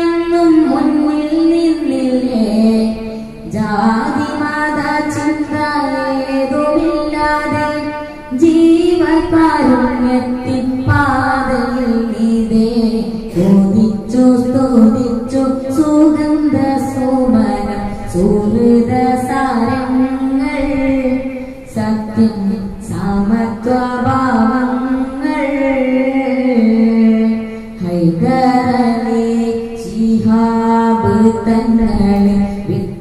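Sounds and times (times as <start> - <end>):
boy singing into microphone: 0.0 - 33.0.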